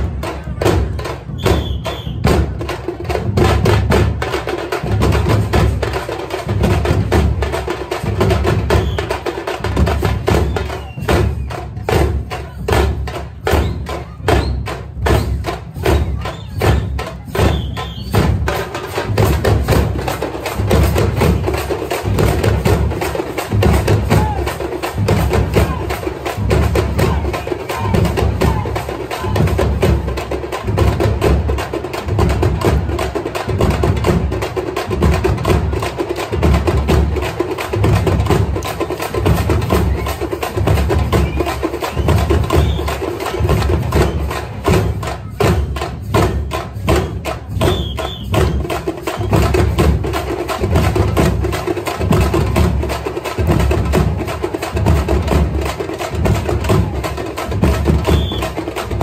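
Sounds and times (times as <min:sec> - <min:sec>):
frame drums playing fast rhythm: 0:00.0 - 0:59.0.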